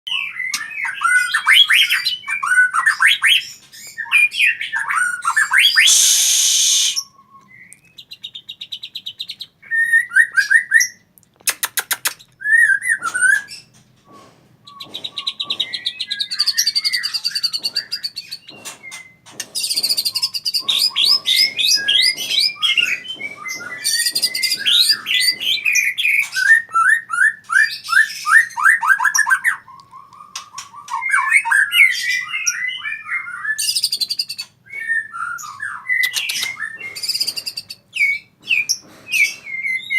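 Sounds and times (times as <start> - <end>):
bird singing whistled song: 0.1 - 11.0, 12.4 - 13.7, 14.7 - 39.9.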